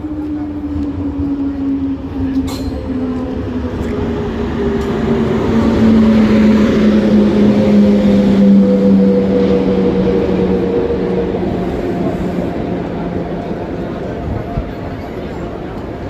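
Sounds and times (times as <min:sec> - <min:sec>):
train approaching with droning tone: 0:00.0 - 0:16.0.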